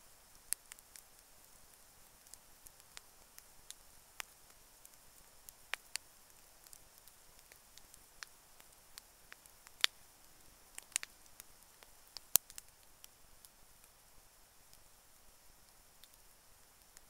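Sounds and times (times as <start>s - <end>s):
faint steady hiss: 0.0s - 17.0s
campfire crackling and popping: 0.2s - 17.0s.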